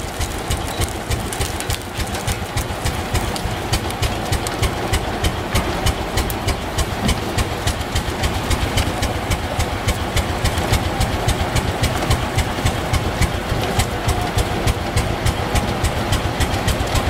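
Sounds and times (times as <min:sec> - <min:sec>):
old engine idling: 0:00.0 - 0:17.0.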